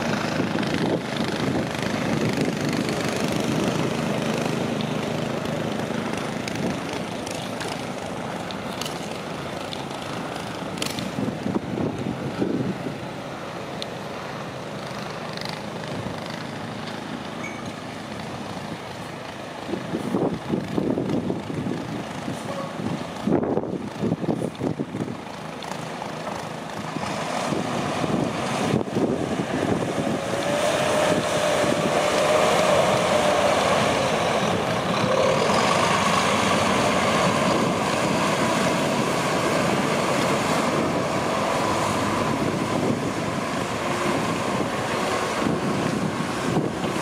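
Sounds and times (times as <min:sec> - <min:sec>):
diesel truck engine under load: 0:00.0 - 0:47.0.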